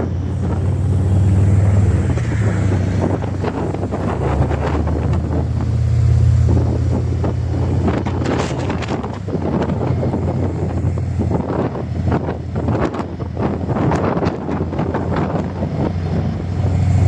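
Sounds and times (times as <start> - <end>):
motorcycle engine rumbling: 0.0 - 17.0
wind buffeting microphone: 0.0 - 17.0.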